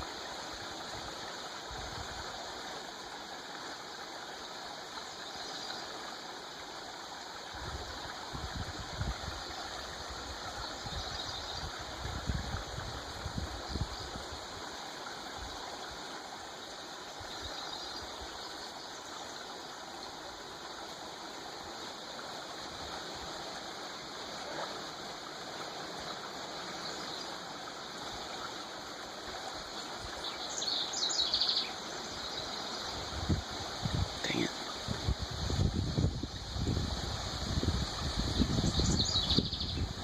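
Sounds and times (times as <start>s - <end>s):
creek water running: 0.0s - 40.0s.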